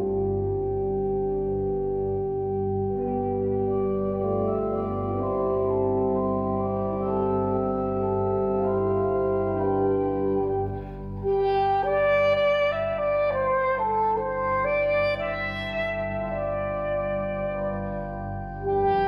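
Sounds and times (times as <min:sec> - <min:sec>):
pipe organ chords: 0:00.0 - 0:19.0
saxophone melody: 0:00.0 - 0:19.0.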